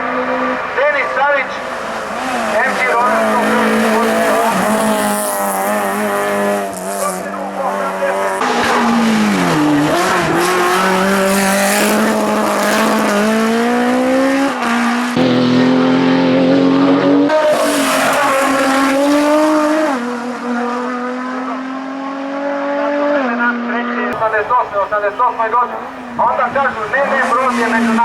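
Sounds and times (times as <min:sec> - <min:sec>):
race car engine: 0:00.0 - 0:28.0.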